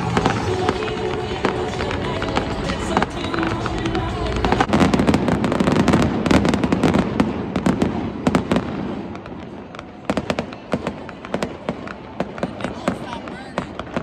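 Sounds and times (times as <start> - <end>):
fireworks cracking and booming: 0.0 - 14.0.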